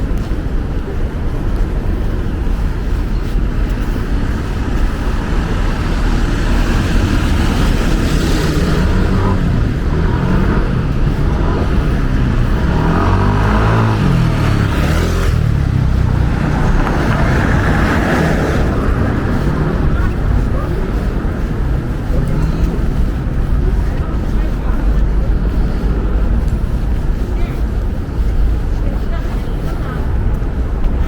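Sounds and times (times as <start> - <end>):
city street traffic: 0.0 - 31.0
vehicle engine: 0.0 - 31.0
wind buffeting microphone: 0.0 - 31.0.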